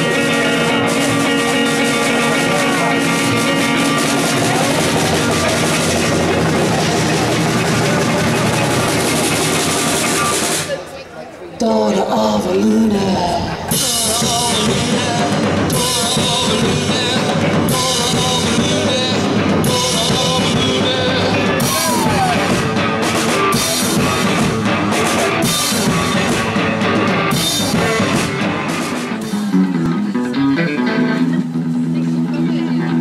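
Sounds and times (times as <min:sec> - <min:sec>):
drum kit playing: 0:00.0 - 0:10.9, 0:13.5 - 0:33.0
rock music: 0:00.0 - 0:10.9, 0:12.7 - 0:33.0.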